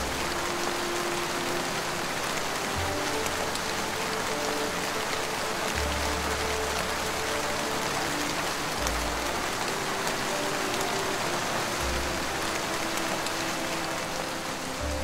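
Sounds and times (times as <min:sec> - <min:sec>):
rain-like hiss: 0:00.0 - 0:15.0
soft ambient music: 0:00.0 - 0:15.0.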